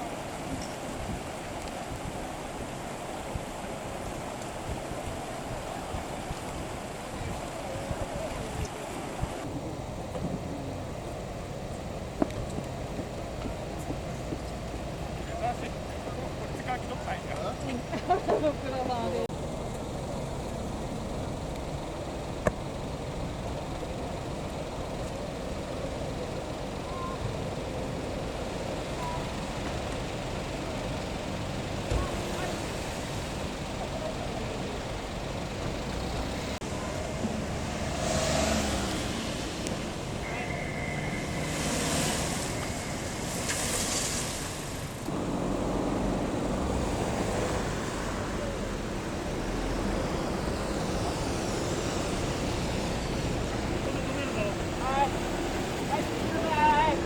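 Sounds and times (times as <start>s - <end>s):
wind noise: 0.0s - 17.0s, 17.6s - 57.0s
fire truck engines rumbling: 0.0s - 57.0s.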